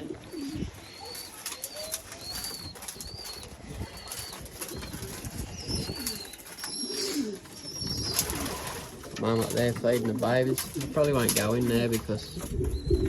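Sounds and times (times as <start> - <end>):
pigeon wings flapping: 1.0 - 13.0.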